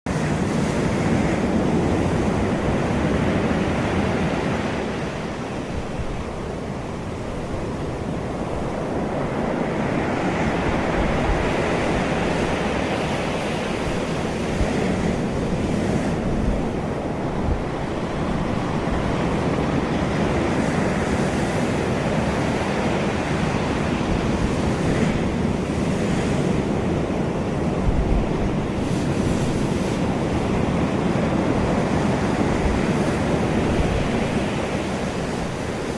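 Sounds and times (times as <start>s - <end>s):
sea waves washing onto shore: 0.1s - 35.9s
wind rumble on microphone: 0.1s - 35.9s.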